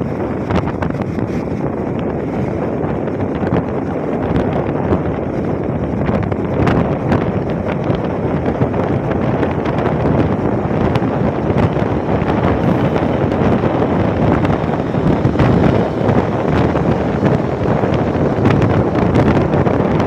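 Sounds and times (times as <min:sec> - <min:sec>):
motorcycle travel noise: 0:00.0 - 0:20.0
wind buffeting microphone: 0:00.0 - 0:20.0.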